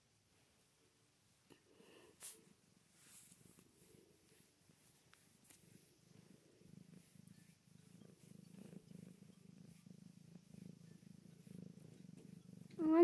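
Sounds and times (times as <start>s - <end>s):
cat purring: 0.1s - 13.0s.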